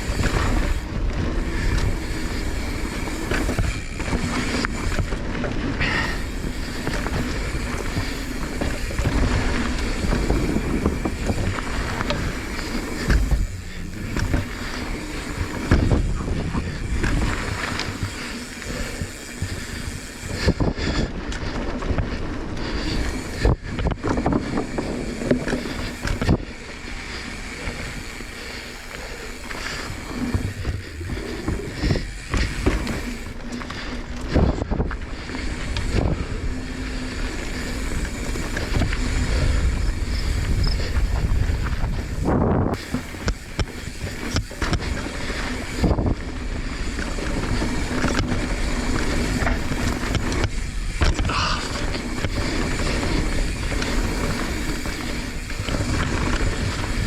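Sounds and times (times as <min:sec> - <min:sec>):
wind buffeting microphone: 0:00.0 - 0:28.5, 0:29.2 - 0:57.0
bike rattling: 0:00.0 - 0:57.0
tyres rolling over dirt: 0:00.0 - 0:57.0.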